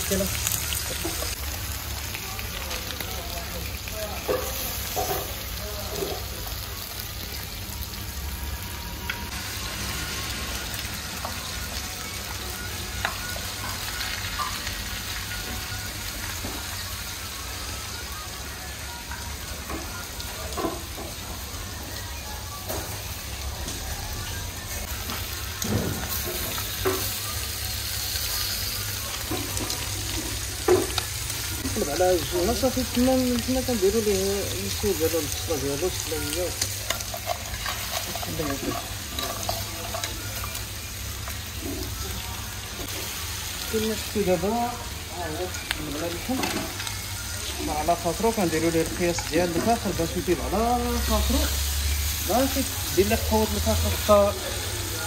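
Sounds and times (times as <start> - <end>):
sizzling hiss over charcoal: 0.0 - 55.0.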